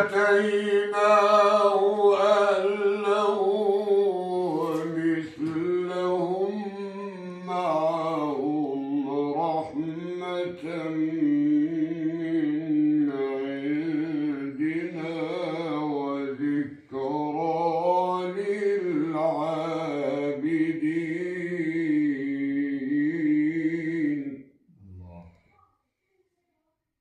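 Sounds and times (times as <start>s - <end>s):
man reciting melodically: 0.0s - 25.3s.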